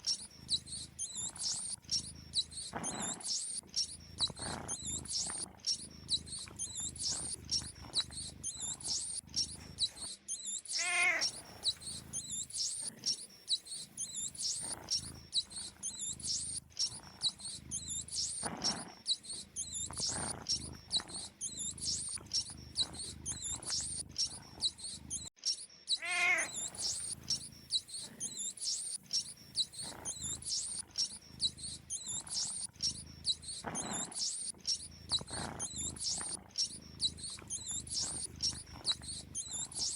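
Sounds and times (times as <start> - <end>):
rapid high chirps: 0.0 - 39.9.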